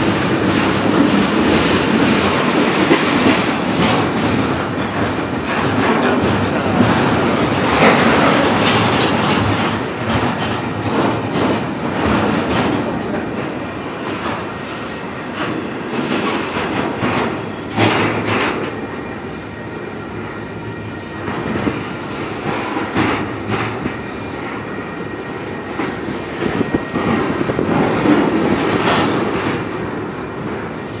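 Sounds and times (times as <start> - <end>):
clickety-clack over rail joints: 0.0 - 31.0
train car clanks: 0.0 - 31.0
train wheels rumbling on rail: 0.0 - 31.0.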